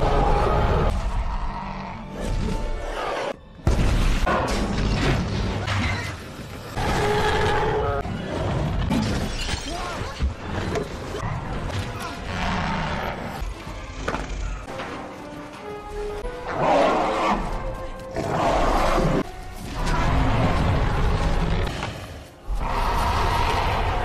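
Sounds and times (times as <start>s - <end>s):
film soundtrack music: 0.0s - 24.0s.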